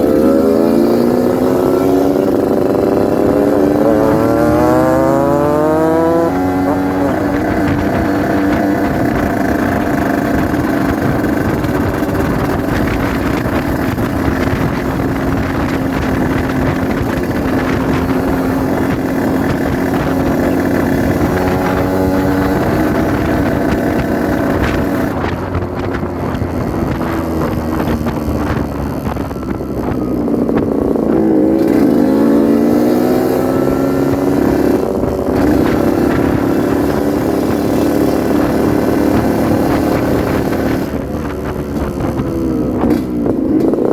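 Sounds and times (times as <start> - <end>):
two-stroke motorcycle engine: 0.0 - 43.9
wind on microphone: 0.0 - 43.9.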